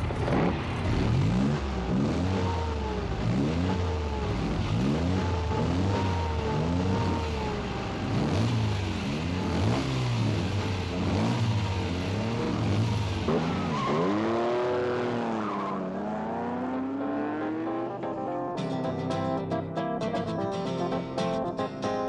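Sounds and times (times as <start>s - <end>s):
sports car engines revving: 0.0s - 18.5s.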